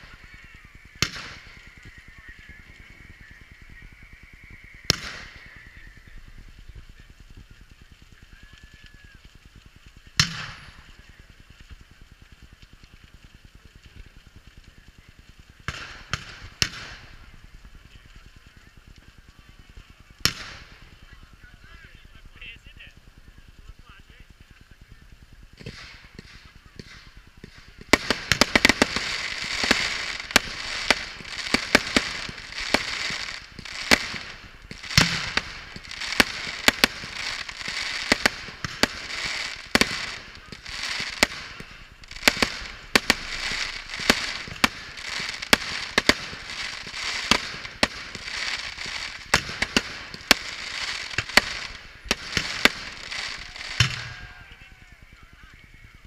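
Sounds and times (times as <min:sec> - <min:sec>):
firework bangs and cracks: 0:00.0 - 0:55.1
firework hissing crackle: 0:00.0 - 0:56.0.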